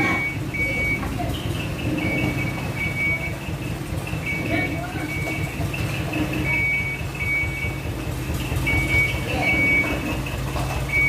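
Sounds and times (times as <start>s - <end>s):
truck engine running: 0.0s - 11.0s
truck reverse alarm beeping: 0.0s - 11.0s.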